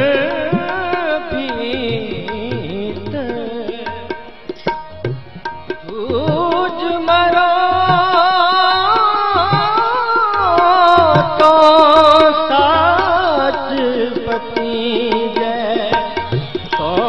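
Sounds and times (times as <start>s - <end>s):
harmonium melody: 0.0s - 17.0s
tabla strokes: 0.0s - 17.0s.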